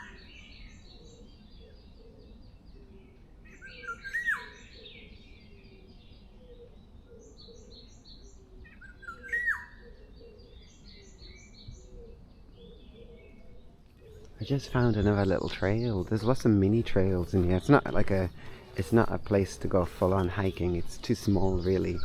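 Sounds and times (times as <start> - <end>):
bird song phrase: 0.0 - 22.0
high bird chirping: 0.0 - 22.0.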